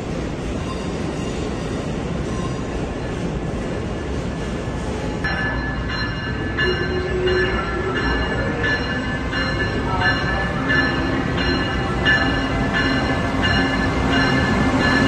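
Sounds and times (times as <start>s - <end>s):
electric locomotive rumbling: 0.0s - 15.0s
high whining tones from train: 0.0s - 15.0s.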